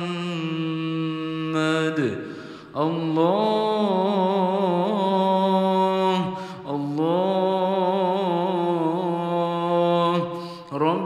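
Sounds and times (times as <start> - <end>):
person chanting melodically: 0.0 - 11.0.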